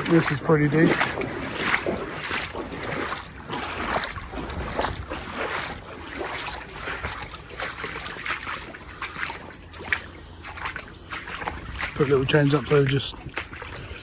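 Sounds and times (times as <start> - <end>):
water sloshing around wading legs: 0.0 - 14.0.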